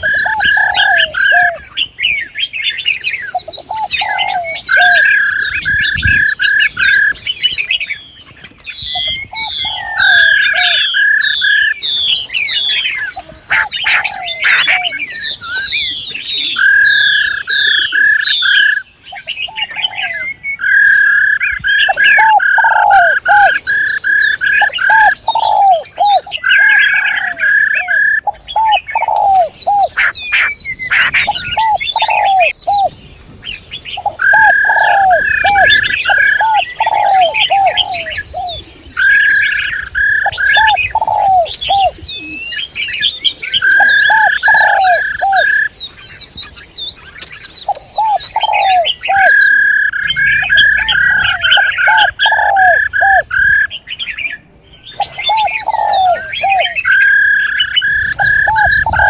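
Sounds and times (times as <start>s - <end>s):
high bird chirps: 0.0s - 32.9s, 33.5s - 59.0s
low arched bird notes: 0.0s - 59.0s.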